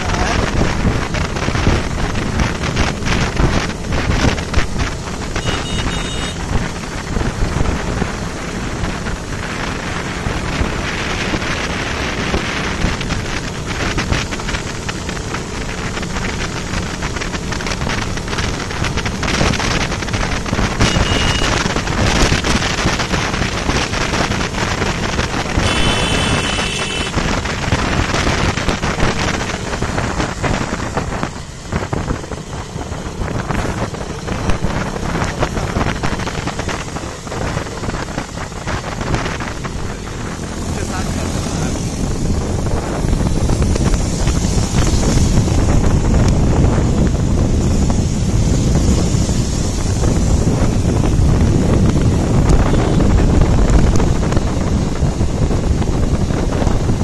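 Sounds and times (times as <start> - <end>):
motorcycle engine and tyre noise: 0.0 - 57.0
wind buffeting microphone: 0.0 - 57.0.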